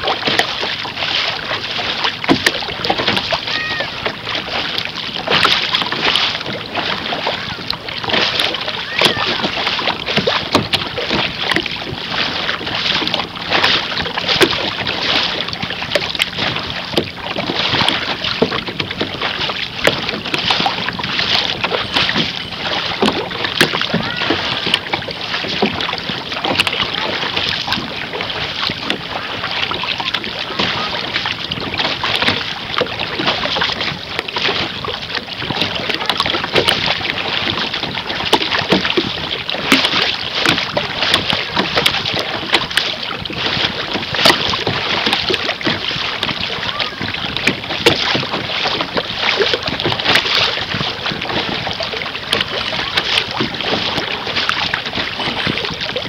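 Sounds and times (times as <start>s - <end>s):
water splashing against canoe: 0.0s - 56.0s
wind buffeting microphone: 0.0s - 56.0s.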